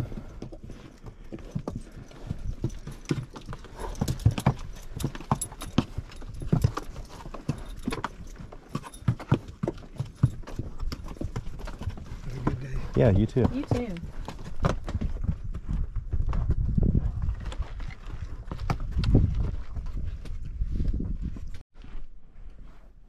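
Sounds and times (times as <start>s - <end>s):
hooves clip-clopping: 0.0s - 22.0s.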